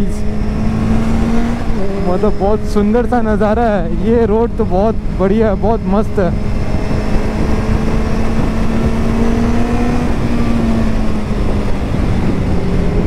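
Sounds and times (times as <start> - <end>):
motorcycle engine cruising: 0.0 - 13.0
wind rush on microphone: 0.0 - 13.0.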